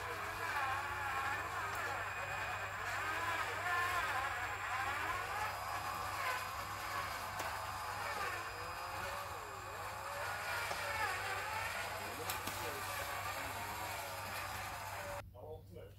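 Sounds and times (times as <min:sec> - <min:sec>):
toy truck motor whine: 0:00.0 - 0:15.2.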